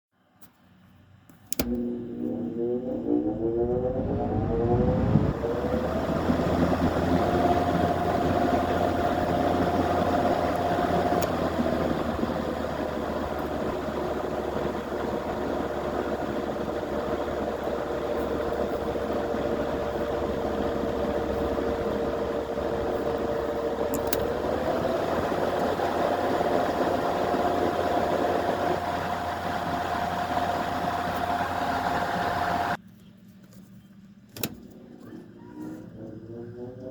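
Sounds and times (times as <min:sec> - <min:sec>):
box fan whirring: 0:01.3 - 0:32.8, 0:33.9 - 0:36.9.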